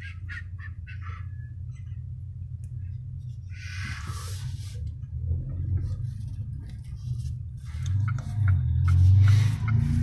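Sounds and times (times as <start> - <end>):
car engine hum inside cabin: 0.0 - 10.0.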